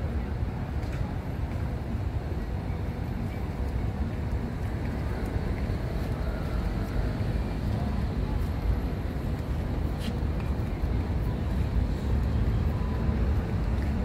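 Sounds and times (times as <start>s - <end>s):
city background rumble: 0.0s - 14.0s.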